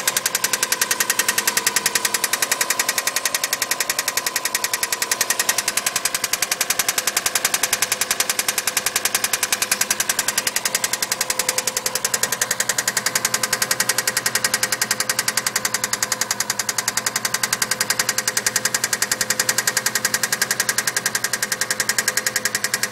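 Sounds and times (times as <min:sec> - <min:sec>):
engine running with steady knock: 0:00.0 - 0:22.9.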